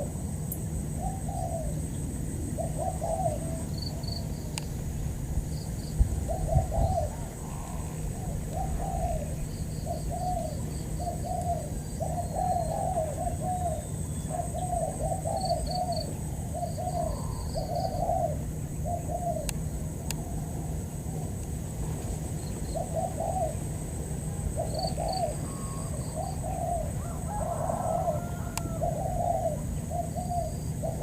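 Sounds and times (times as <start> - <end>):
doves cooing: 0.0 - 4.5, 6.2 - 31.0.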